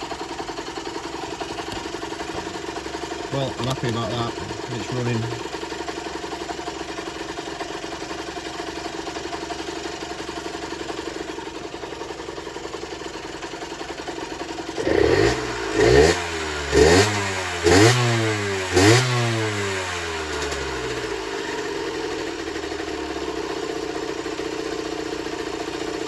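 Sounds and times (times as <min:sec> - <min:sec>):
two-stroke engine idling and revving: 0:00.0 - 0:26.0.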